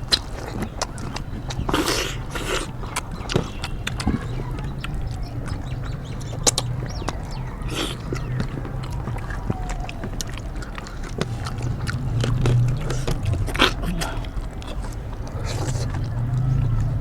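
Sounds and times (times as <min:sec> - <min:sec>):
wet chewing and lip smacks: 0:00.0 - 0:17.0.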